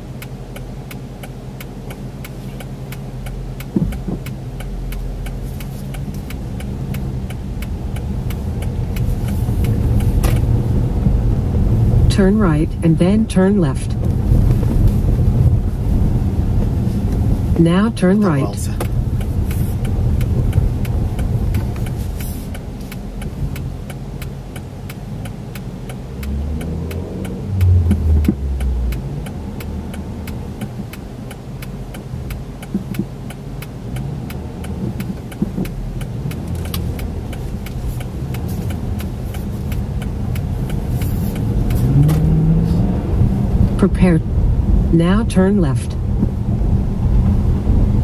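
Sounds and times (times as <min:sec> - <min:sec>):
engine and road rumble: 0:00.0 - 0:48.0
turn signal relay ticking: 0:00.0 - 0:48.0.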